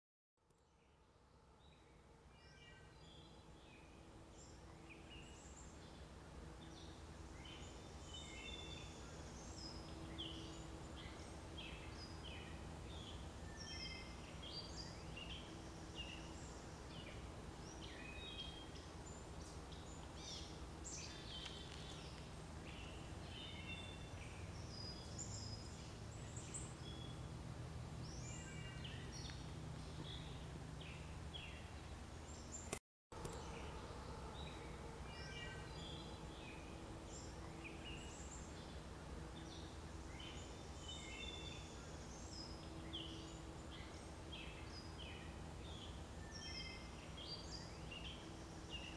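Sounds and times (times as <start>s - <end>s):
steady low hum: 1.0s - 48.9s
songbirds chirping and singing: 1.6s - 48.9s.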